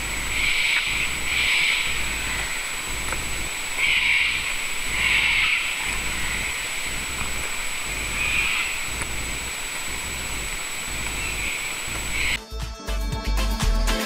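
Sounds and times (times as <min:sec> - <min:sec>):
distant harsh bird calls: 0:00.0 - 0:12.4
outdoor hiss: 0:00.0 - 0:12.4
wind rumble on microphone: 0:00.0 - 0:12.4.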